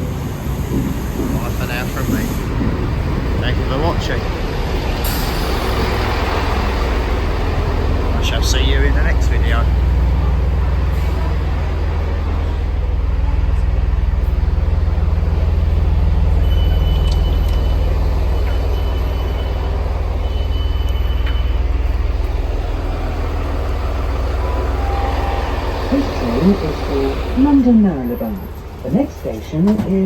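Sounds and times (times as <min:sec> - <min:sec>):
train diesel engine rumbling: 0:00.0 - 0:30.0.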